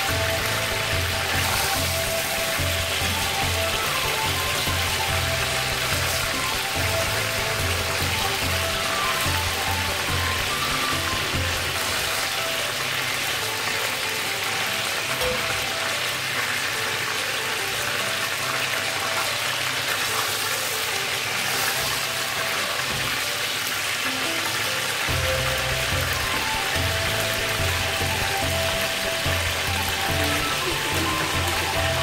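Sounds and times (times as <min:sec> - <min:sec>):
background music: 0:00.0 - 0:32.0
fish sizzling in hot oil: 0:00.0 - 0:32.0.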